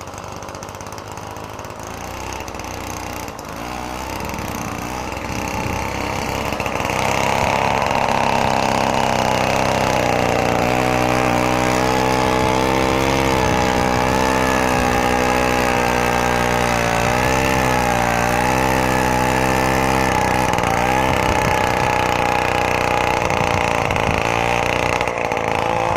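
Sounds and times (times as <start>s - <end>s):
snowblower two-stroke engine running: 0.0s - 25.9s.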